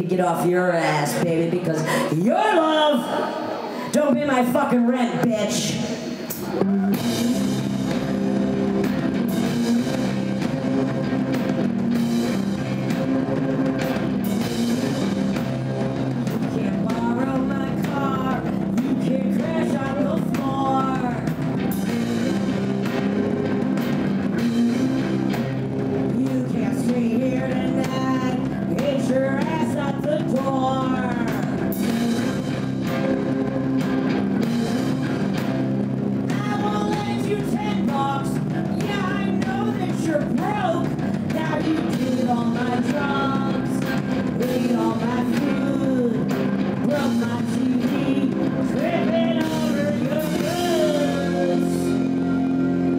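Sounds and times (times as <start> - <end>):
drum kit playing: 0.0 - 52.9
electric guitar notes: 3.0 - 52.9.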